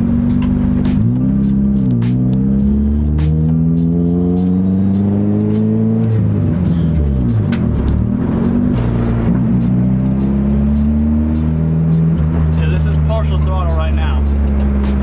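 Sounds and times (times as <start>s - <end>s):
car engine revving: 0.0s - 15.0s
music playing: 0.0s - 15.0s.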